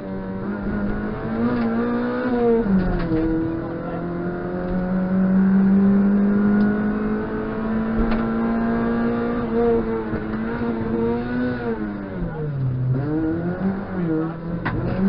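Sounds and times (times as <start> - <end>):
car engine under load: 0.0 - 15.0
road and tyre noise: 0.0 - 15.0.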